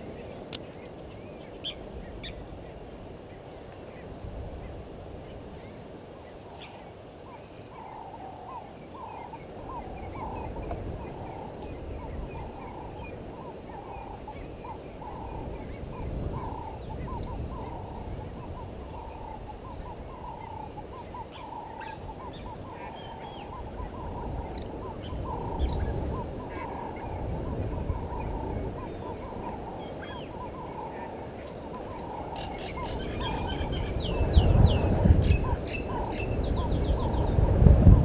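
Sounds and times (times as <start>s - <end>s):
wild birds calling: 0.0s - 38.0s.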